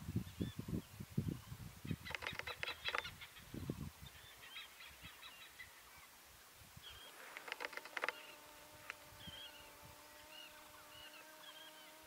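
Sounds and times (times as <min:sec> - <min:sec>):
birds calling: 0:00.3 - 0:12.0.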